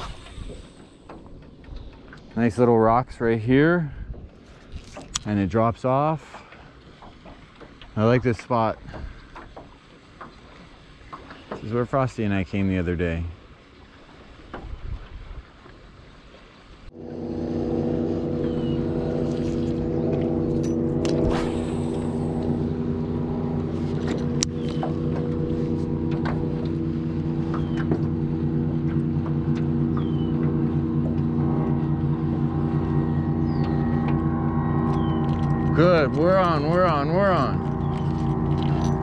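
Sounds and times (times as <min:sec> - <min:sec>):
boat motor running: 0:00.0 - 0:13.4, 0:16.9 - 0:39.0.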